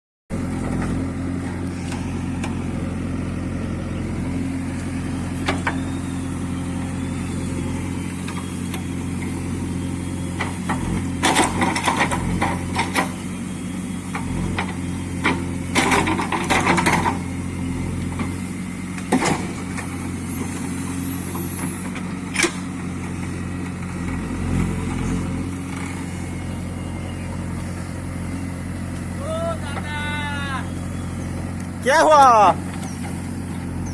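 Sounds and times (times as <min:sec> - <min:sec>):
heavy diesel engine running: 0:00.3 - 0:33.9.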